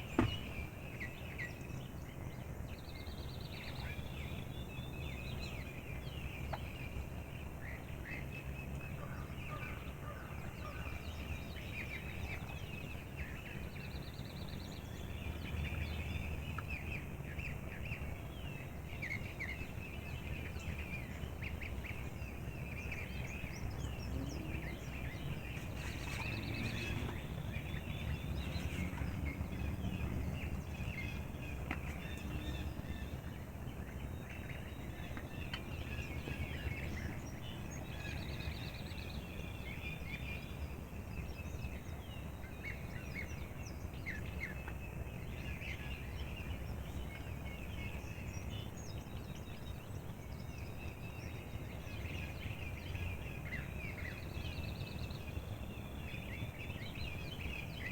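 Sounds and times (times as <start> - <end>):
low rumble of wind: 0.0 - 57.9
songbirds chirping and trilling: 0.0 - 57.9.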